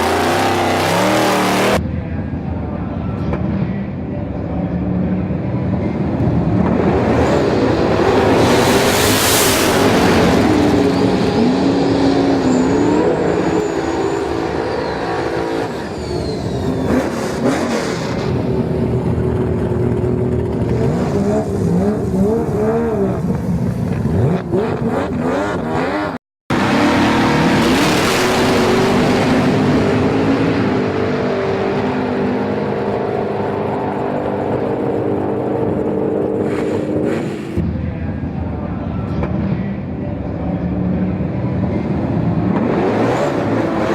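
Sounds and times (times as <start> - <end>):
race car engines revving: 0.0 - 2.4, 3.2 - 43.9.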